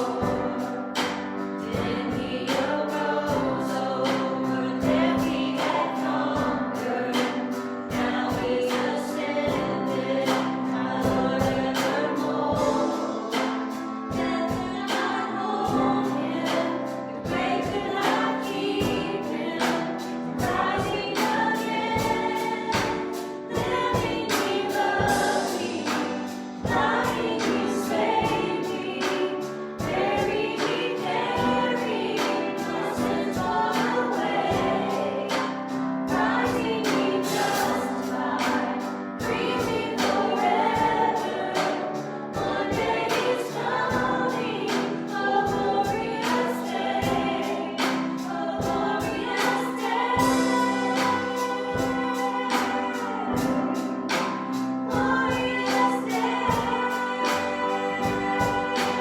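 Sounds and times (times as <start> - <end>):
singers with a band: 0.0 - 59.0
steady drum beat: 0.0 - 59.0.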